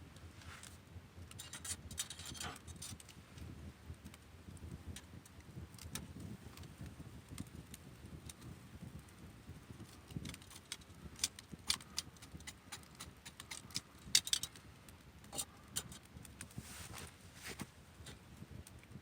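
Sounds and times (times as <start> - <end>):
campfire crackling and popping: 0.2 - 19.0.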